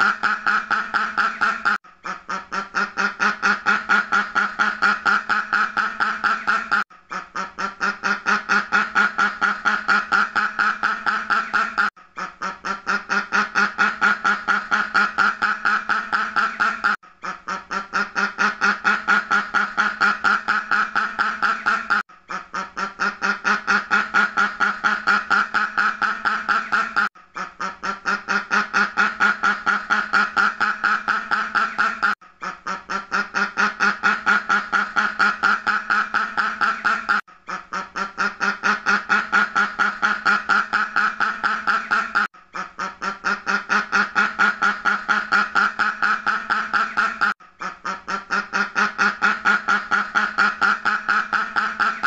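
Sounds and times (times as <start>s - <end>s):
duck quacking: 0.0s - 52.0s.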